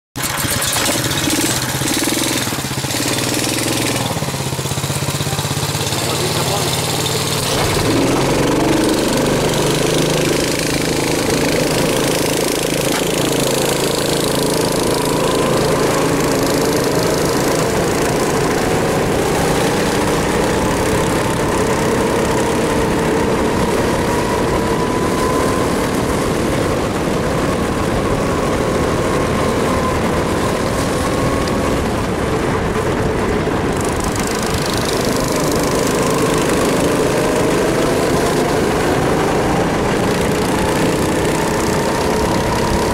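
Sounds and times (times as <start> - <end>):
go-kart engine running: 0.2 - 42.9.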